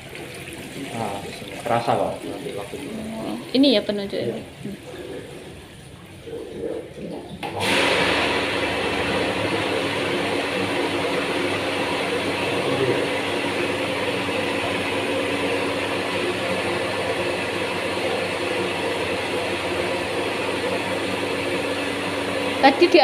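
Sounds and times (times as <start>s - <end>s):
water rushing through pipes: 0.0s - 23.0s.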